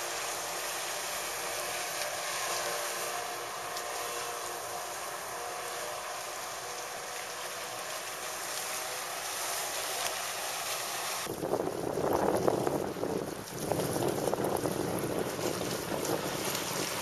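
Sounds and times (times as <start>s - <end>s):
distant outboard motor running: 0.0s - 17.0s
water noise: 0.0s - 17.0s
wind: 0.0s - 17.0s.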